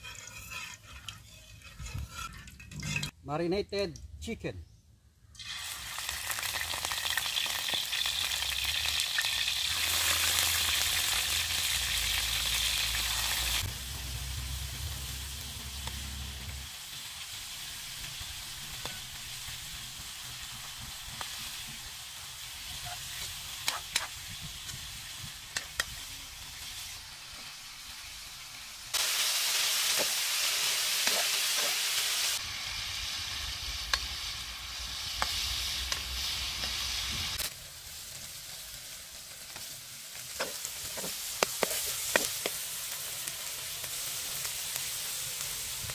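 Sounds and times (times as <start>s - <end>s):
chicken sizzling in hot oil: 5.4s - 45.9s.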